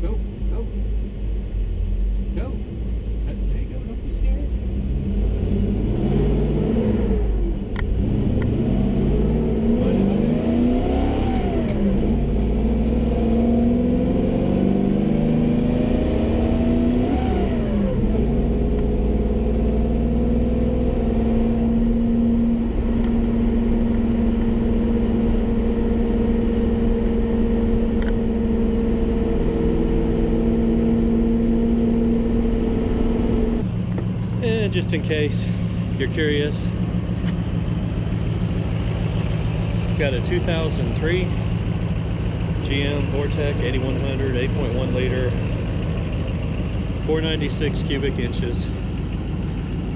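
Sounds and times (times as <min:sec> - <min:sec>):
truck engine accelerating: 0:00.0 - 0:49.9.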